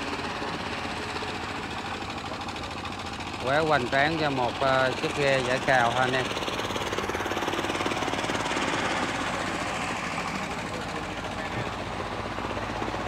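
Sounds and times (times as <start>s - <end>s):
engine running with rough rattle: 0.0s - 13.0s.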